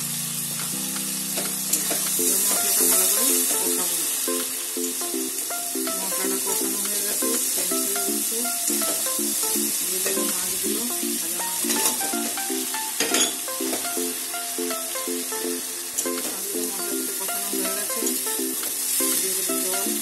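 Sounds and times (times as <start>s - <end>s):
light plucked background music: 0.0s - 20.0s
spices sizzling in hot oil: 0.0s - 20.0s.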